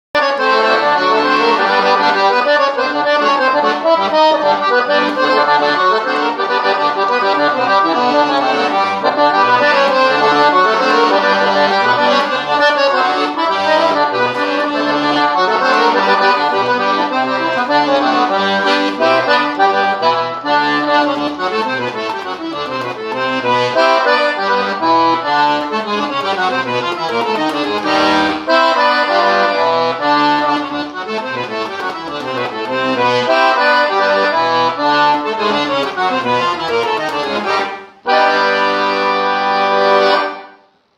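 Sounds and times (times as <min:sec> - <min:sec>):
accordion playing folk tune: 0:00.2 - 0:40.9.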